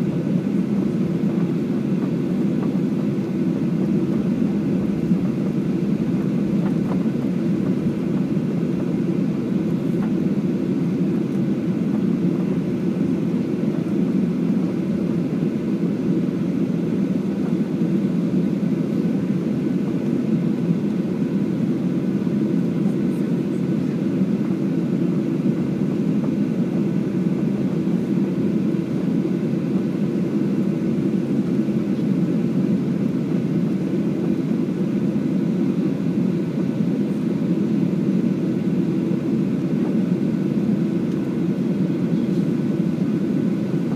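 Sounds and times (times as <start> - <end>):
cabin air system: 0.0 - 43.9
jet engines hum: 0.0 - 43.9.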